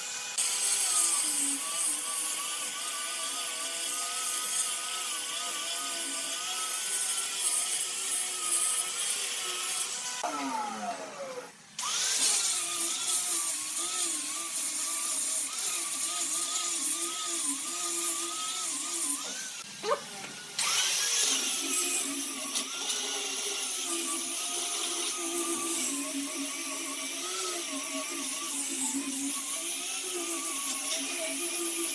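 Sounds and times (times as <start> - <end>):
power tool motor running: 0.0 - 31.9.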